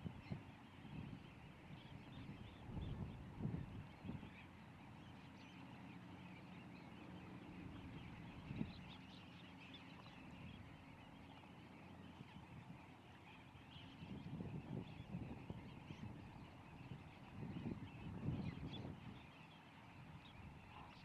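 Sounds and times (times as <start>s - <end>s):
distant waterbirds calling: 0.0s - 21.0s.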